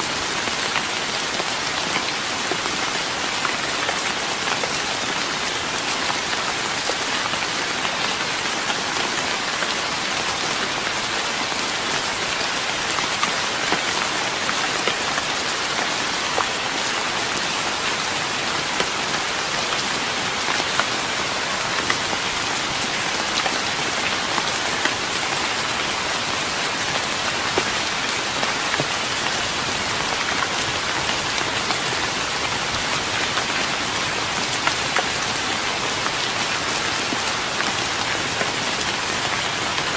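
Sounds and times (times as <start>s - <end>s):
rain pattering on a wooden deck: 0.0s - 39.9s.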